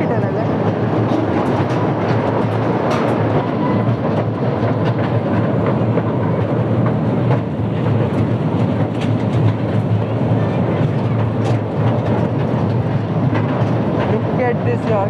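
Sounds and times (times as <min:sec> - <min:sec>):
miniature train wheels rumbling: 0:00.0 - 0:15.0.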